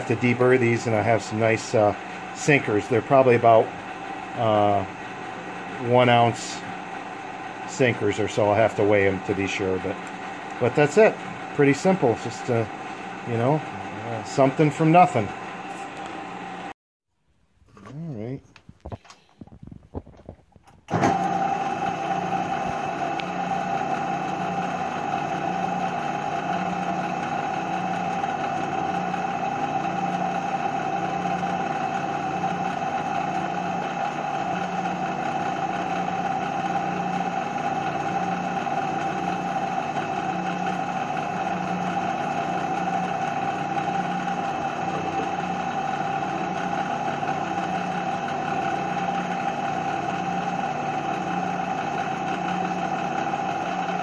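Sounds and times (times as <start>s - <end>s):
drill press motor humming: 0.0s - 16.8s, 20.8s - 54.0s.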